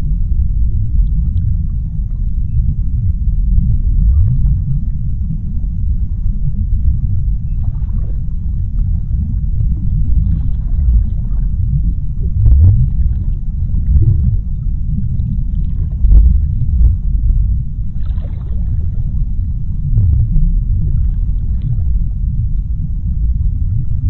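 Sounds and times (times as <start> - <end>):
deep underwater rumble: 0.0 - 24.0
faint crackles and clicks: 0.0 - 24.0.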